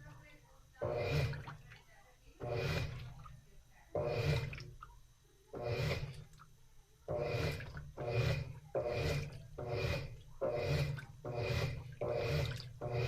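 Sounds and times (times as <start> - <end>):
washing machine motor strokes: 0.0 - 13.0
water swishing in tub: 0.0 - 13.0.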